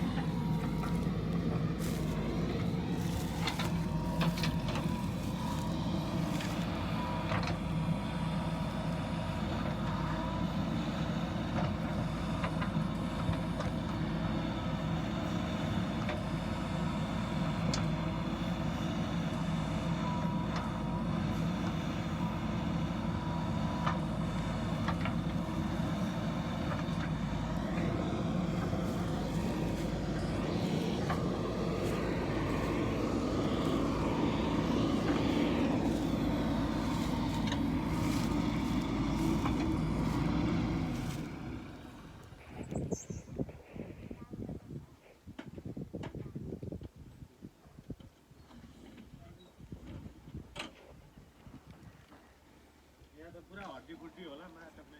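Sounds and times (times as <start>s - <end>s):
diesel engine running: 0.0s - 44.4s.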